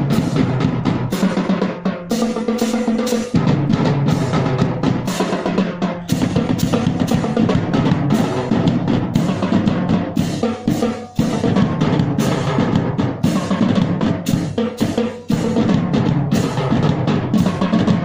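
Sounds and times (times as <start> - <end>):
band playing: 0.0 - 18.0
drum rolls: 0.0 - 18.0
steady drum beat: 0.0 - 18.0.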